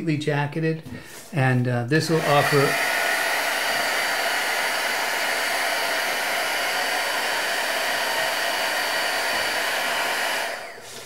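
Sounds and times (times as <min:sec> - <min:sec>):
heat gun blowing air: 0:02.0 - 0:11.0.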